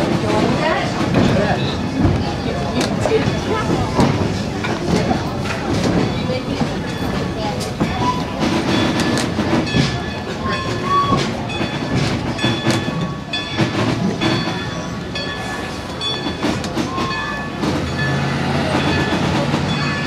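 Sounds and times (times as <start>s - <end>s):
railroad car rattling: 0.0s - 20.0s
train wheels clacking over rail joints: 0.0s - 20.0s.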